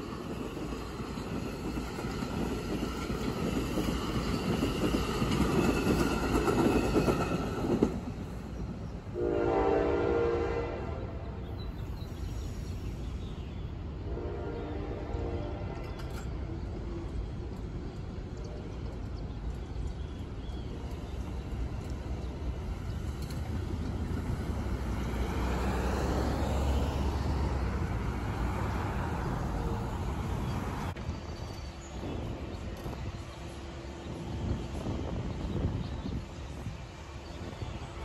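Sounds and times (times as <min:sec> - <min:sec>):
train passing rumble: 0:00.0 - 0:38.0.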